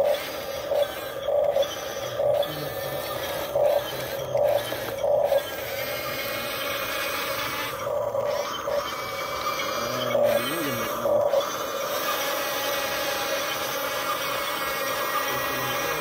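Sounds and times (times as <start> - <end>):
electric gear motors whirring: 0.0 - 16.0
gear whine: 0.0 - 16.0.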